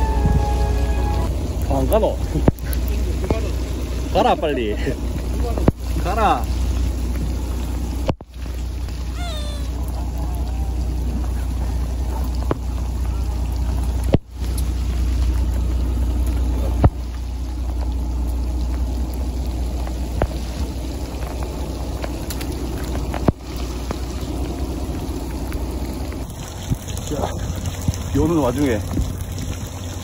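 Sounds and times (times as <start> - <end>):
boat engine rumbling: 0.0 - 30.0
rain falling: 0.0 - 30.0.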